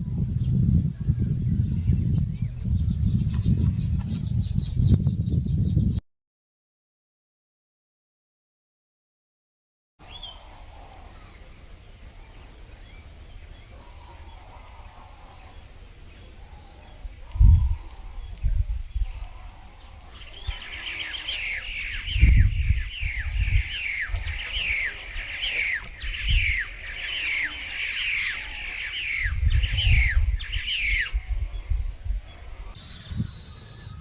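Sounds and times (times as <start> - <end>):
birds chirping: 0.0 - 6.0, 10.0 - 34.0.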